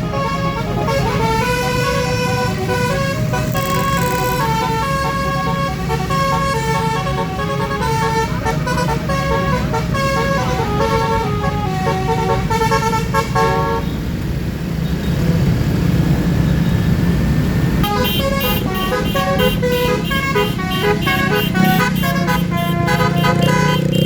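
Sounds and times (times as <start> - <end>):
multi-tone musical horn melody: 0.0 - 13.9, 17.8 - 24.0.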